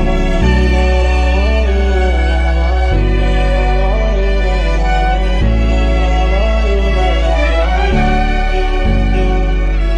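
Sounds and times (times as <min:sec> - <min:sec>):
instrumental pop chords: 0:00.0 - 0:09.9.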